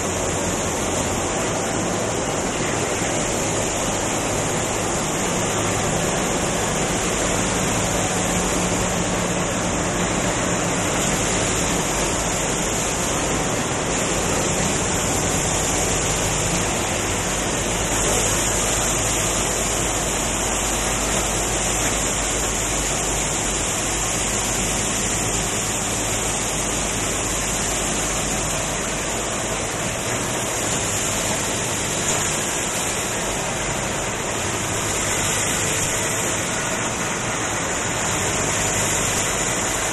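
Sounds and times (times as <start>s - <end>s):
nail production machines running: 0.0s - 39.9s.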